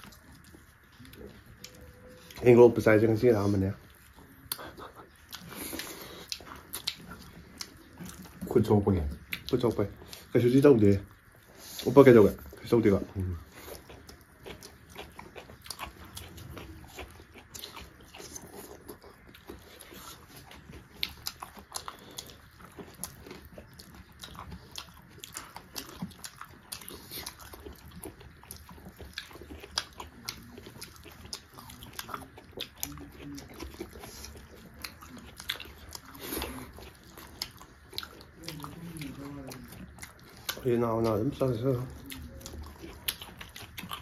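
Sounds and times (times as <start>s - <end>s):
people chewing food: 0.0s - 44.0s.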